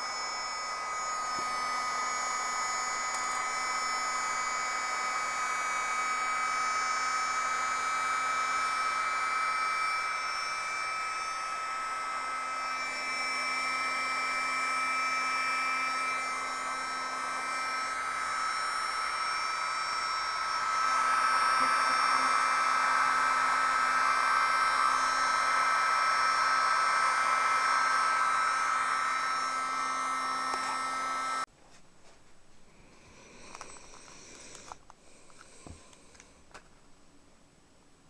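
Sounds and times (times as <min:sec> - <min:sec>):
small vacuum cleaner running: 0:00.0 - 0:31.5, 0:32.7 - 0:36.6.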